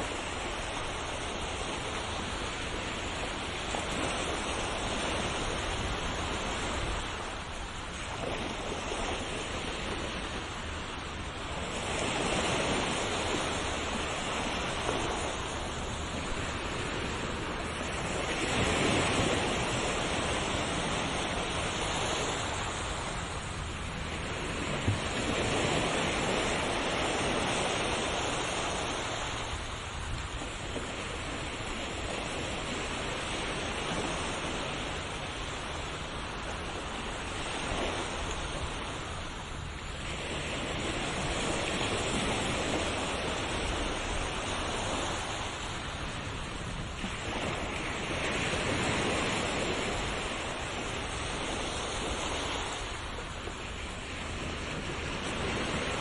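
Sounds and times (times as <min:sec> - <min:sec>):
sea waves washing onto shore: 0:00.0 - 0:56.0.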